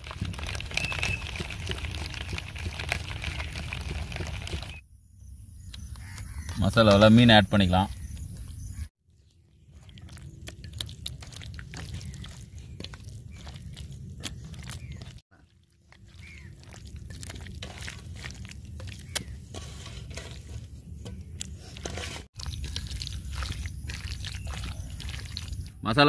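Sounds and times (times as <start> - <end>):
hand squelching through wet batter: 0.0 - 4.8, 9.1 - 25.8.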